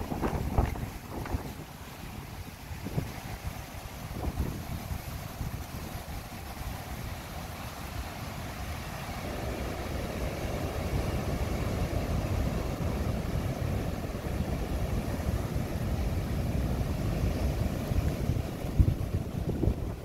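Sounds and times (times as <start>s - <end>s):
strong wind buffeting microphone: 0.0s - 7.2s, 9.3s - 20.0s
heavy surf breaking: 0.0s - 20.0s.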